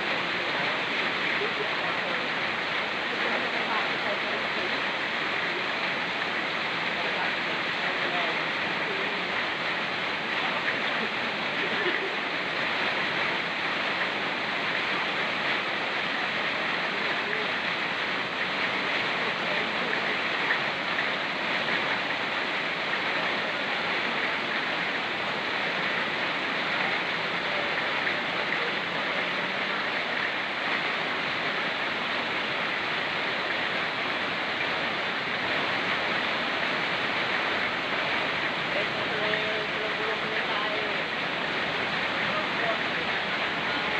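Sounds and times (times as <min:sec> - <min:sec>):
mountain stream rushing: 0:00.0 - 0:43.9
rain falling: 0:00.0 - 0:43.9.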